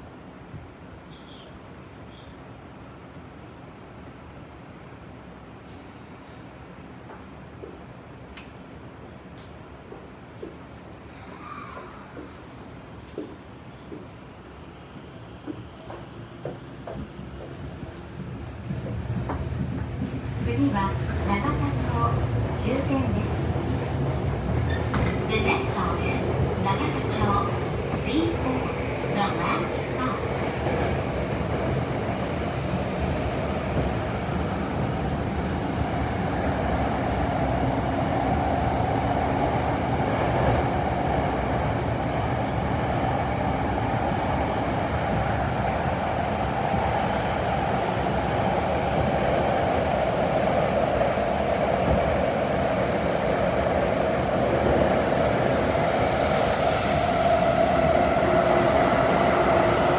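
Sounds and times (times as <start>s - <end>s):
rumble of train wheels: 0.0s - 59.9s
subway train running: 0.0s - 59.9s.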